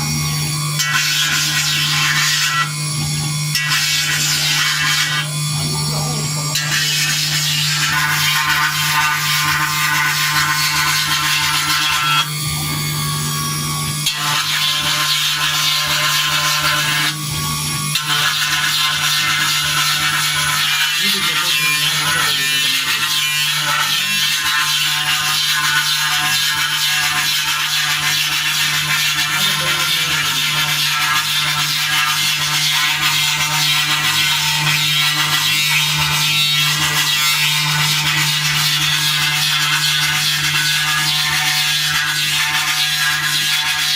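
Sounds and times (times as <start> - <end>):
engraving machine spindle cutting: 0.0 - 43.9.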